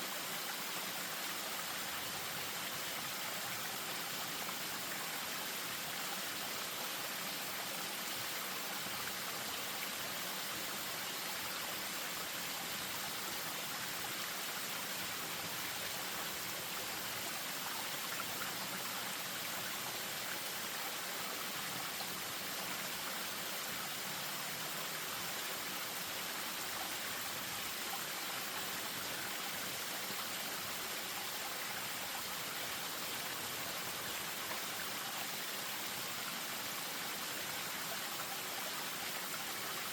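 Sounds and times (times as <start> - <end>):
stream waterfall rushing: 0.0 - 39.9.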